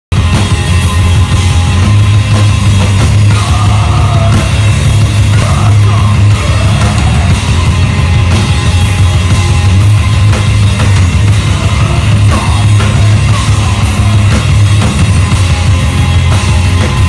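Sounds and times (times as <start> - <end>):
live rock band playing: 0.1 - 17.0
wavering electric guitar line: 0.2 - 17.0.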